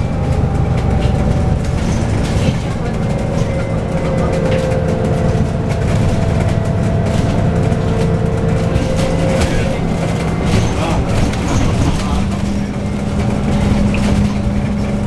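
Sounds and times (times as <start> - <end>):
bus engine hum and whine: 0.0 - 15.0
road noise: 0.0 - 15.0.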